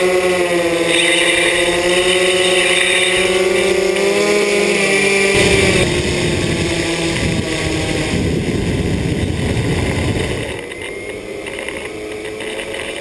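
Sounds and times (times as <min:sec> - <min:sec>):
electric motors humming: 0:00.0 - 0:13.0
low rushing noise: 0:00.8 - 0:11.5.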